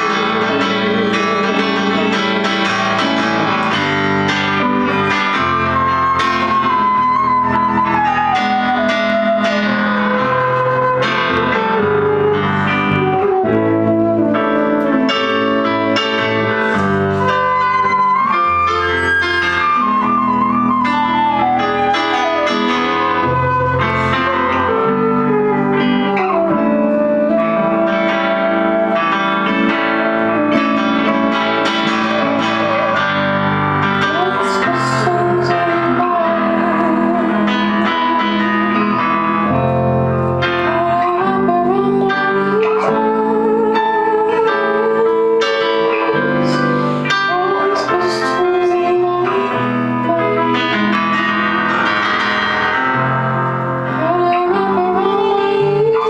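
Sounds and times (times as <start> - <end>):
electric guitar: 0.0 - 56.0
electric keyboard: 0.0 - 56.0
flute melody: 0.0 - 56.0
violin: 0.0 - 56.0.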